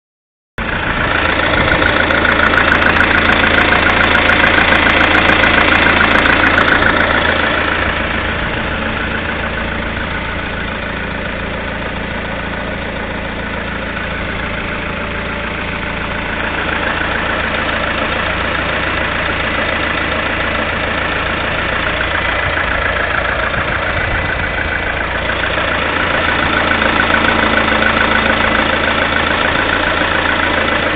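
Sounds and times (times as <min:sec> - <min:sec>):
car engine idling: 0:00.6 - 0:30.9
engine knocking: 0:00.6 - 0:30.9.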